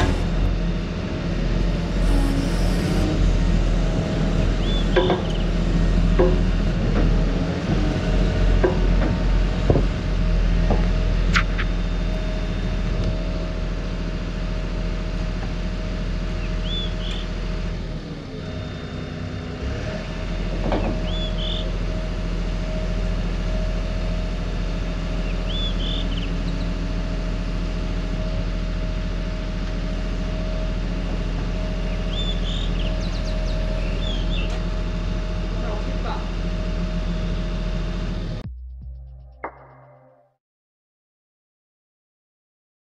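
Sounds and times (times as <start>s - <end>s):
diesel engine running: 0.0s - 39.4s.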